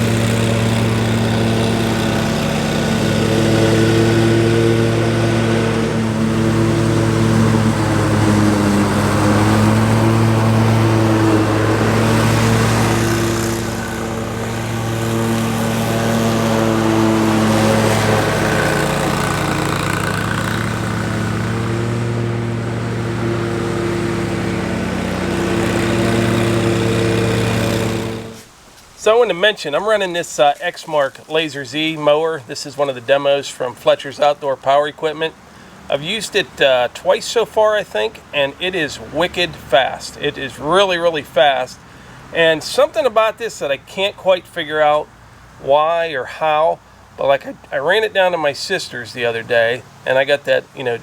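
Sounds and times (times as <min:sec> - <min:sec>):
mower engine running: 0:00.0 - 0:28.6, 0:33.3 - 0:48.4.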